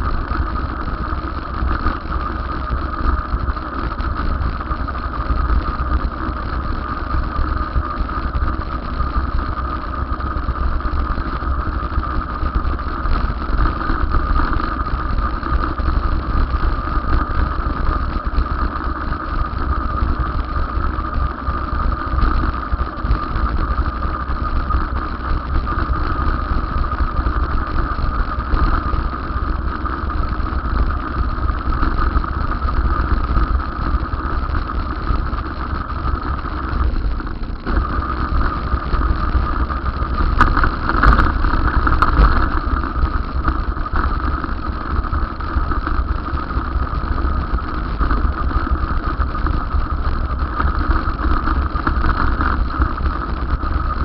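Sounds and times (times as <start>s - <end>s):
steady whine: 0.0s - 54.0s
vehicle running rumble: 0.0s - 54.0s.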